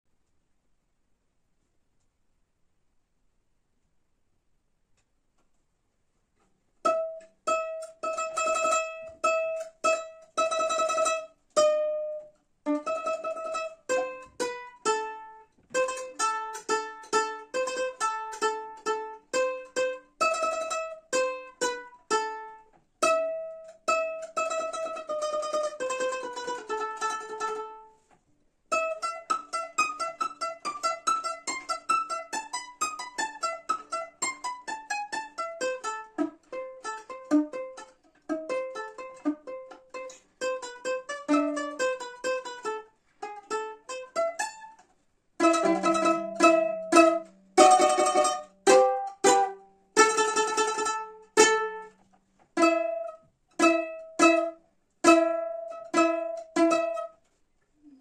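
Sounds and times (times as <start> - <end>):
mandolin melody: 6.8 - 58.0.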